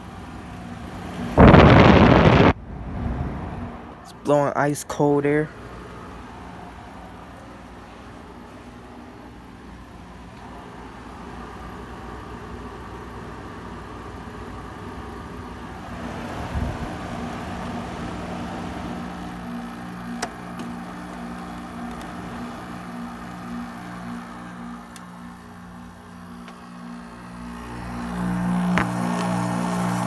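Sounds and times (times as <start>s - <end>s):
air conditioner humming: 0.0s - 30.0s.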